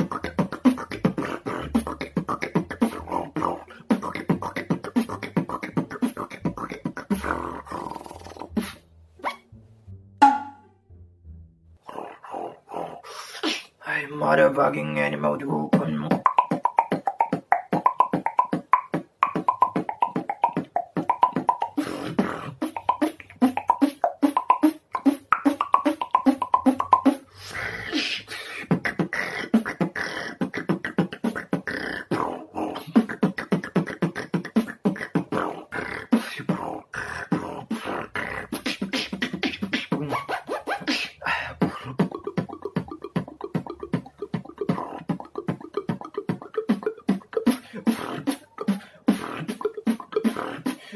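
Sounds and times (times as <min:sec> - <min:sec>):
beatboxing tongue rolls: 0:00.0 - 0:09.4, 0:11.8 - 0:50.9.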